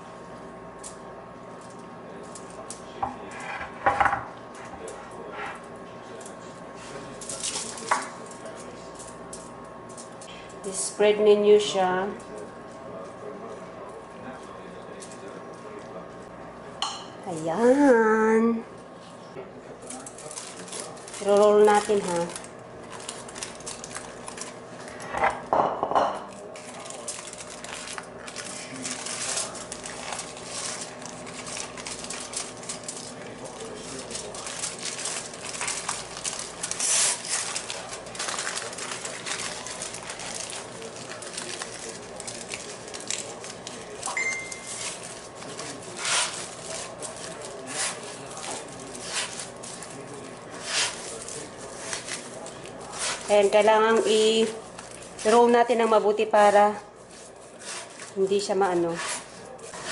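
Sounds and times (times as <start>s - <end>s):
aluminium foil crinkling: 0.8s - 3.8s, 4.5s - 16.3s, 19.7s - 25.1s, 26.3s - 59.9s.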